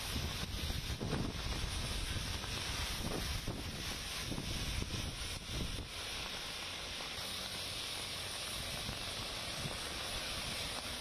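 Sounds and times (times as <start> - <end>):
tyres hissing on wet road: 0.0 - 11.0.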